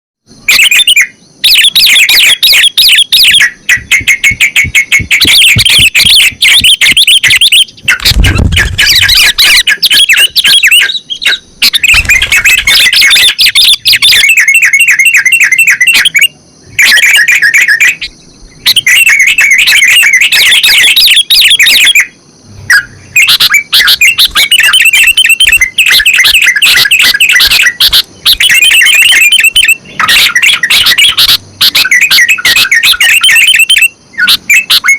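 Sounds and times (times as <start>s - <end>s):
bulbuls singing: 0.3s - 34.9s.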